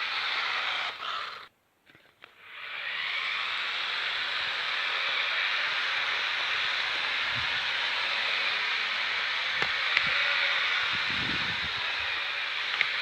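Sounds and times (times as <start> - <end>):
toy truck electric motor whirring: 0.0 - 1.5, 2.2 - 13.0.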